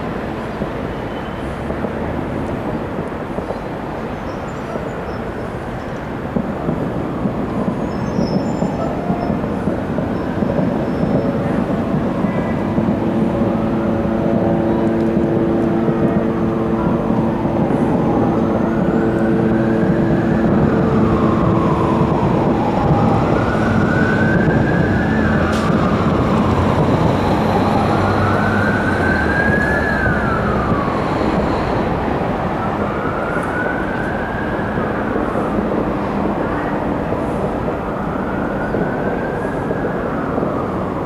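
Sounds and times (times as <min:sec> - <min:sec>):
emergency siren wailing: 0:00.0 - 0:41.0
loud steady din: 0:05.2 - 0:41.0.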